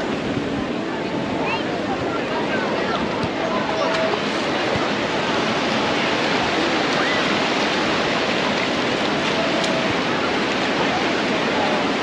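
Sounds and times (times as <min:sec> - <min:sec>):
faint crowd voices: 0:00.0 - 0:12.0
surf breaking on a beach: 0:00.0 - 0:12.0.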